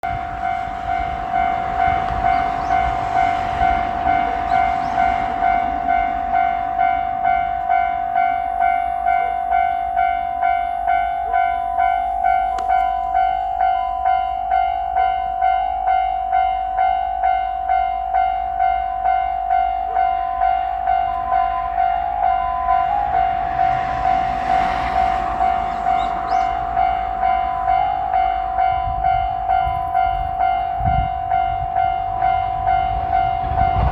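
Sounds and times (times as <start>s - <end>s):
passing train rushing: 0.0s - 33.9s
railroad crossing bell ringing: 0.0s - 33.9s.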